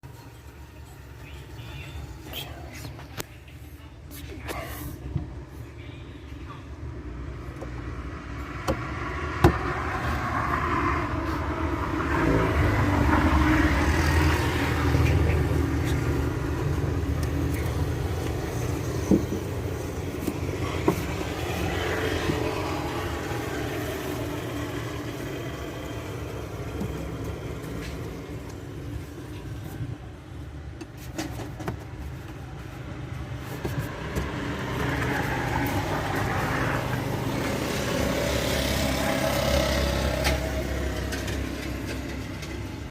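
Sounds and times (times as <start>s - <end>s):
motor vehicle rumble: 0.0s - 42.9s.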